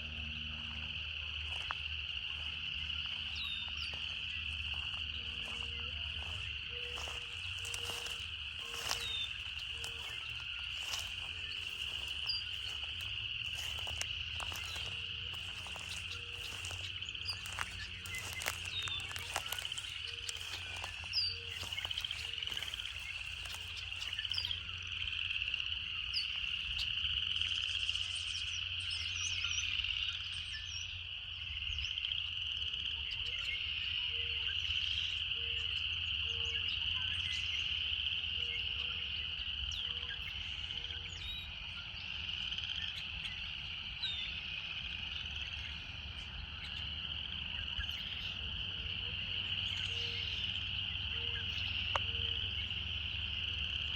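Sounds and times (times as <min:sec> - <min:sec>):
cicadas singing: 0:00.0 - 0:53.9.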